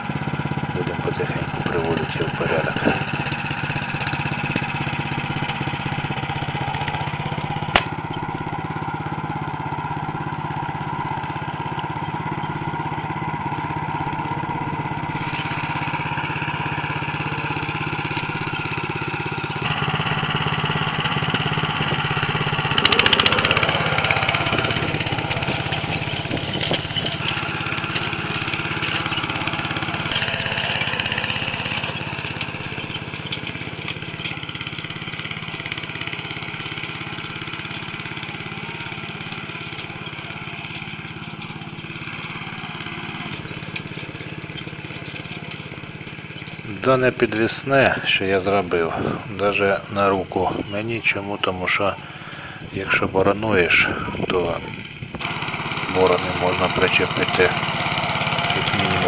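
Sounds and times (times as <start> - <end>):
walk-behind tractor engine running: 0.0 - 59.0.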